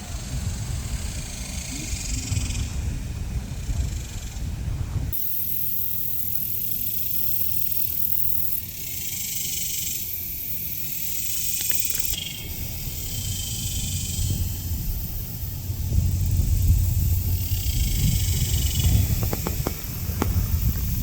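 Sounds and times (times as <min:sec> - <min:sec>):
high-pitched insect chorus: 0:00.0 - 0:02.9, 0:05.1 - 0:21.0.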